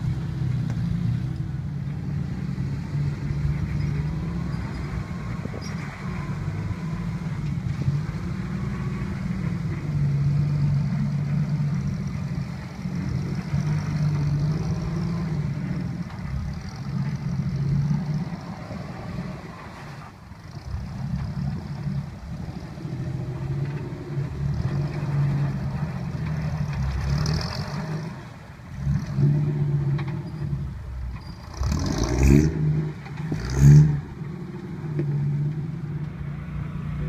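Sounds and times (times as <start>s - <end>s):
off-road engine revving: 0.0s - 37.0s.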